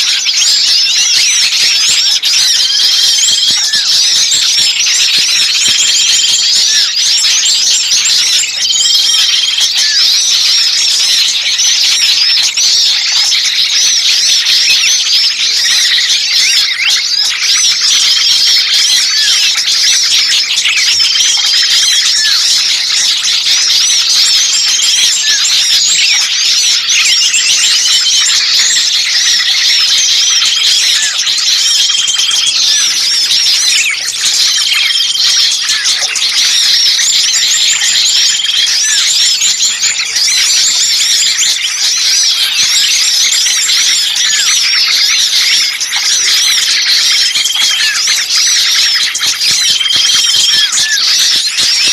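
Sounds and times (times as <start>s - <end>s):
songbirds chirping and chattering: 0.0s - 51.9s.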